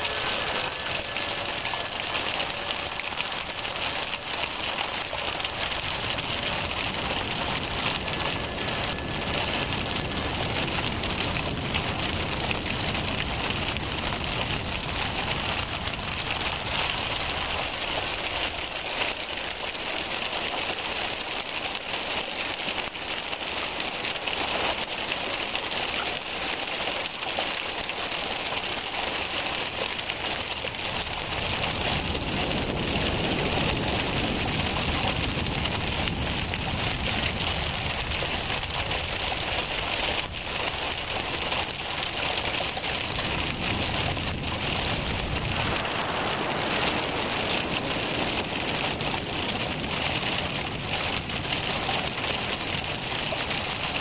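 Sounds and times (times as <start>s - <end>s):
waterfall splashing on rock: 0.0s - 54.0s.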